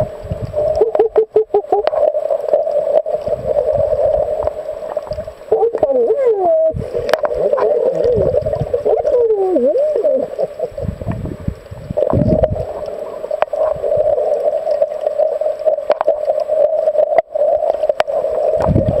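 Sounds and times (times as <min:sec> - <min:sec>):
underwater rushing water surges: 0:00.0 - 0:19.0.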